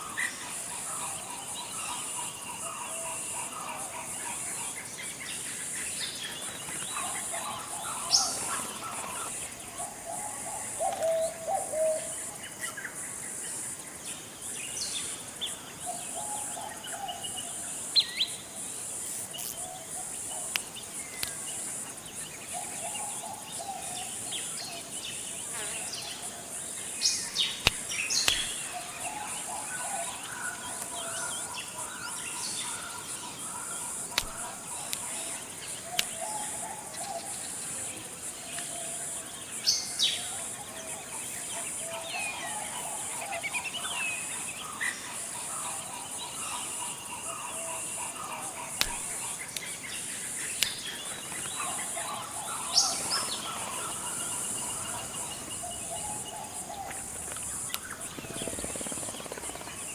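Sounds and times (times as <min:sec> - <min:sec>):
bird calls and chirps: 0:00.0 - 0:13.2, 0:19.4 - 0:37.8, 0:38.4 - 0:59.9
high insect drone: 0:00.0 - 0:59.9.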